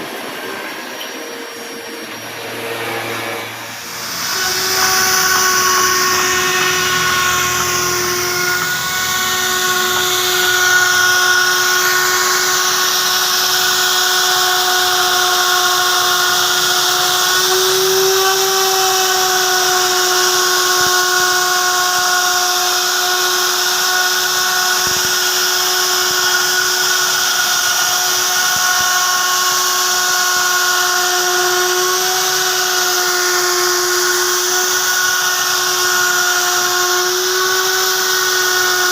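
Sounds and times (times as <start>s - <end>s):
wood router whining: 0.0s - 38.9s.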